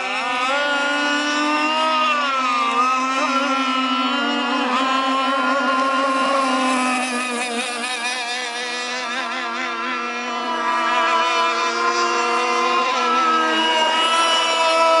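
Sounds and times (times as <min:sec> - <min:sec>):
rc speedboat engines whining: 0:00.0 - 0:15.0.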